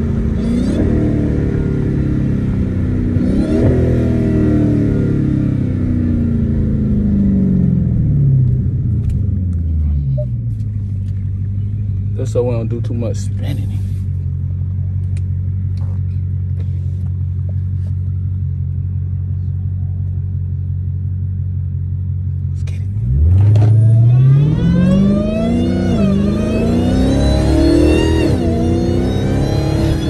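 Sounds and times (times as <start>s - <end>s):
car engine idling: 0.0s - 3.2s, 3.9s - 26.9s
car engine accelerating: 0.0s - 30.0s
supercharger whine: 0.0s - 30.0s.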